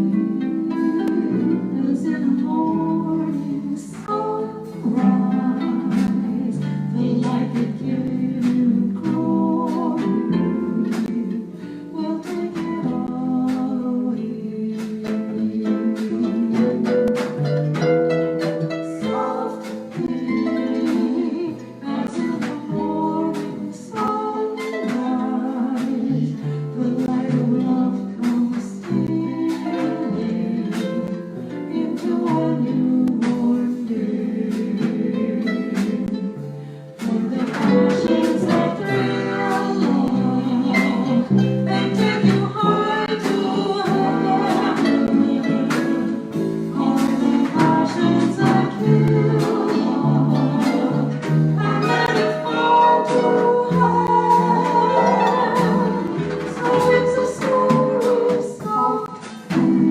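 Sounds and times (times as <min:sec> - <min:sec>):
person singing: 0:00.0 - 0:59.9
plucked harp: 0:00.0 - 0:59.9.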